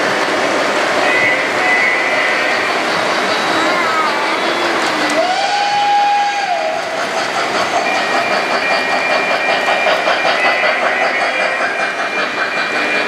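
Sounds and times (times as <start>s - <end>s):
model train wheels clicking: 0.0s - 13.0s.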